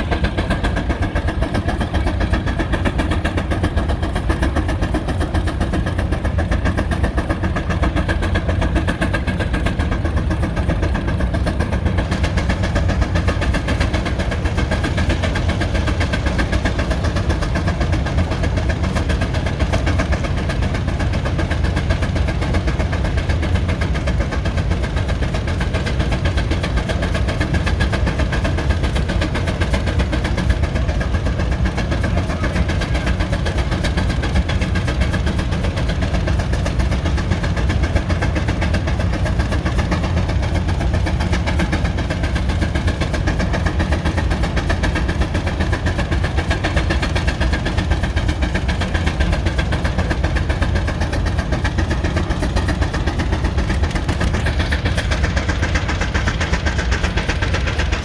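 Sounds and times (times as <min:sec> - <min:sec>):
engine rumbling: 0:00.0 - 0:58.0.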